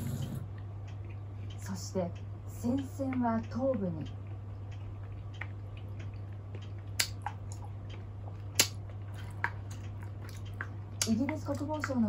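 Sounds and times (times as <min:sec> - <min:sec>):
steady low hum: 0:00.0 - 0:12.0
chewing with mouth clicks: 0:00.1 - 0:12.0.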